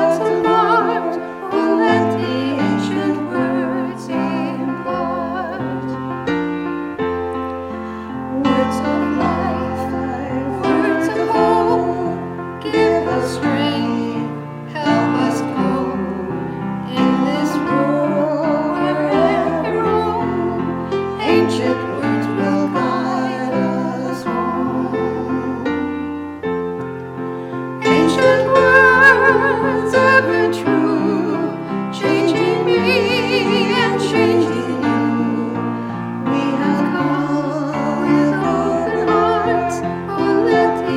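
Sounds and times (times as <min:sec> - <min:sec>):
person singing with vibrato: 0:00.0 - 0:06.2, 0:07.9 - 0:26.4, 0:27.8 - 0:40.9
piano: 0:00.0 - 0:40.9.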